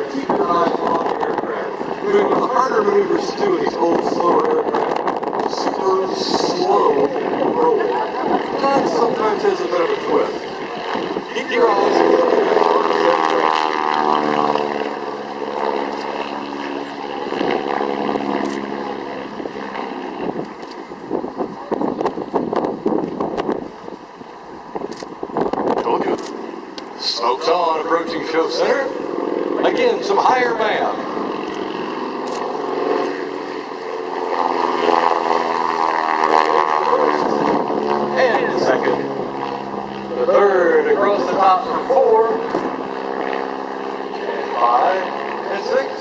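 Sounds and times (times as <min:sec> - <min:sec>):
biplane engine and propeller passing: 0:00.0 - 0:46.0.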